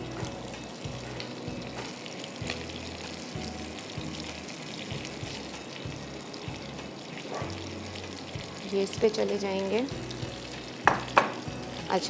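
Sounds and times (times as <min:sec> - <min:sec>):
fish sizzling in a pan: 0:00.0 - 0:12.0.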